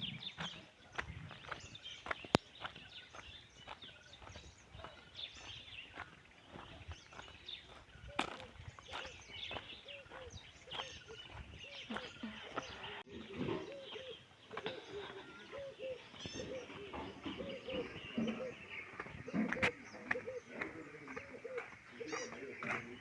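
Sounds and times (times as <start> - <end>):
birds calling: 0.0 - 23.0
high bird chirps: 0.0 - 23.0.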